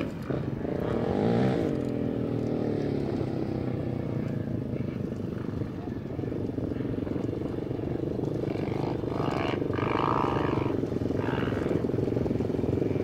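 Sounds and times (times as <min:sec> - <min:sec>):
motorbike engine revving: 0:00.0 - 0:04.9, 0:06.5 - 0:13.0.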